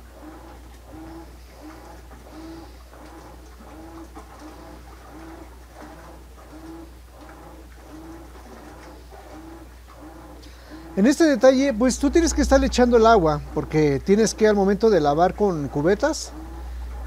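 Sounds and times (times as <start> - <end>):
washer agitating: 0.0 - 17.0.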